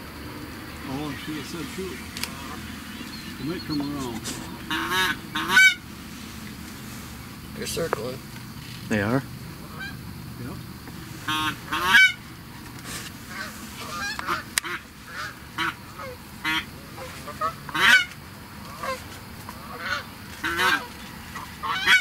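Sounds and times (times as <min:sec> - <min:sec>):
geese honking: 0:00.0 - 0:10.3, 0:10.9 - 0:22.0.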